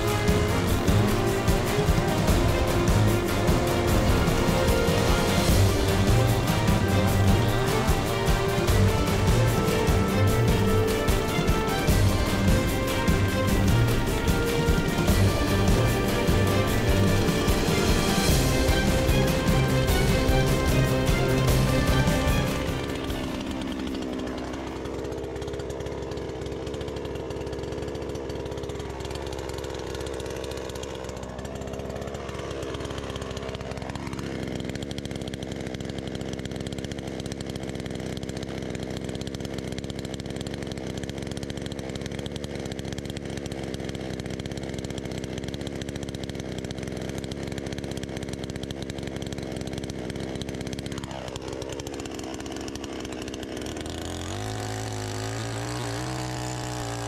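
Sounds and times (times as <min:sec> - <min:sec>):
chainsaw engine running: 0:00.0 - 0:57.0.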